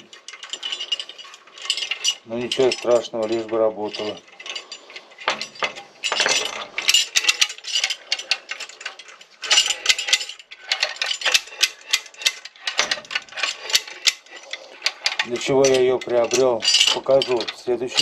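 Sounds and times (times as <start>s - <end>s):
steel parts clinking: 0.0s - 18.0s.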